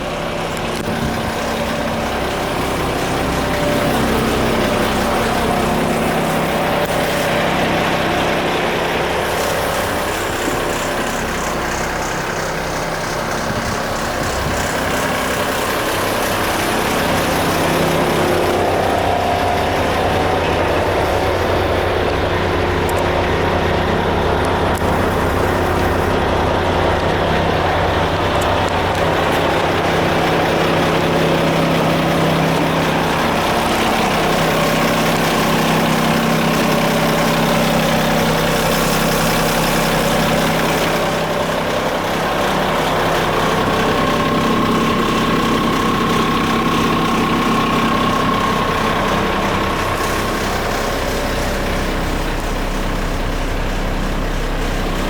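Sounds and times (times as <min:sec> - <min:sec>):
diesel truck engine idling: 0:00.0 - 0:55.0
thin steady whine: 0:00.0 - 0:55.0.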